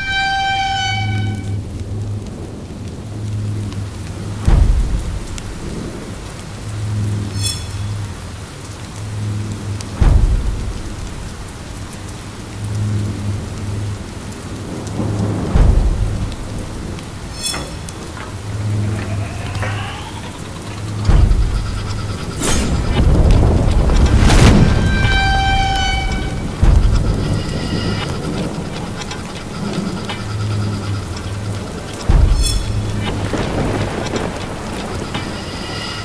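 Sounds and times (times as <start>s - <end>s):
low pulsing drone: 0.0s - 35.6s
steady rain: 0.0s - 36.0s
thunder claps: 0.9s - 36.0s.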